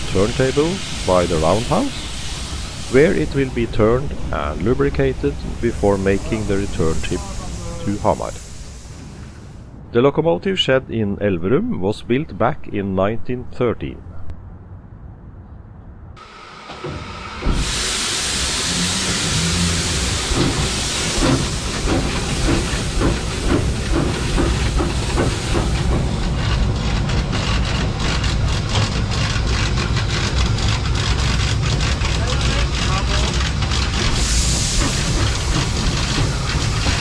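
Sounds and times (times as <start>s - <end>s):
steam locomotive chuffing: 0.0s - 9.7s, 16.2s - 37.0s
steam locomotive hiss: 0.0s - 9.8s, 16.2s - 37.0s.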